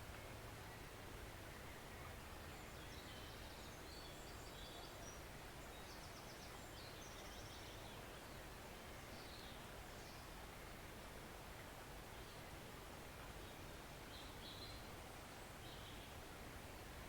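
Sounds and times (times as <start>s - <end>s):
forest stream flowing: 0.0s - 17.0s.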